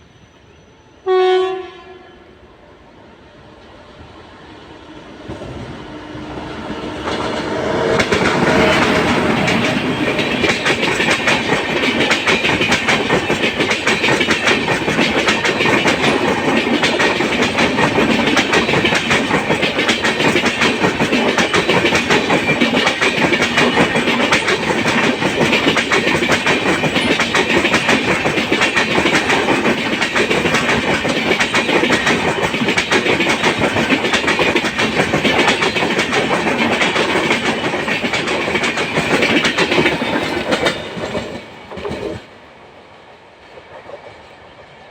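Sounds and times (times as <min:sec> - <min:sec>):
train wheels clattering over rails: 0:05.2 - 0:42.4.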